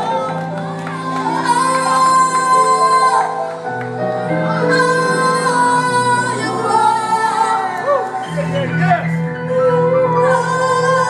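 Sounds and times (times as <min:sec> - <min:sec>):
woman singing gospel: 0:00.0 - 0:03.6, 0:04.2 - 0:08.3, 0:09.4 - 0:11.0
steady musical accompaniment: 0:00.0 - 0:11.0.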